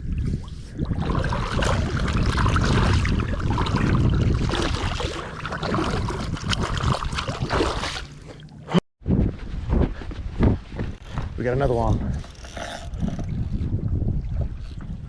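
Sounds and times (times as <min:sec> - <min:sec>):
rumbling wind and water: 0:00.0 - 0:15.0.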